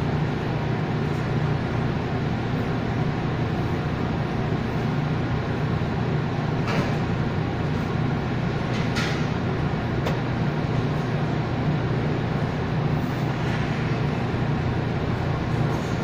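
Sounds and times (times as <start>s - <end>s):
bakery machinery and ventilation hum: 0.0s - 16.0s.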